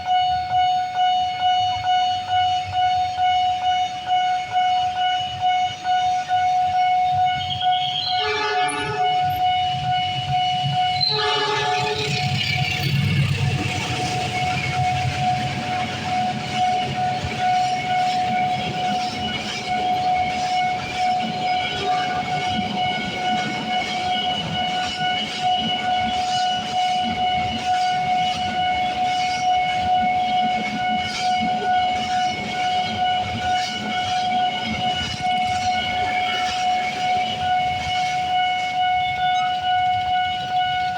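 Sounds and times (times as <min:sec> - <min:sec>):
steady high-pitched tone: 0:00.0 - 0:40.7
train rumble: 0:01.7 - 0:40.9.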